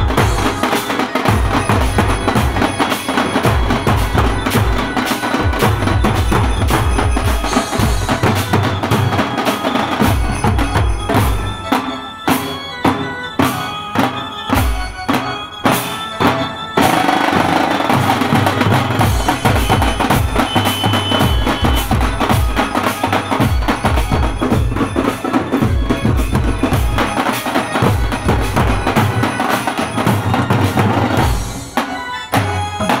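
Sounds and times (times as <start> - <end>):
light fast drum strokes: 0.0 - 11.6, 16.8 - 33.0.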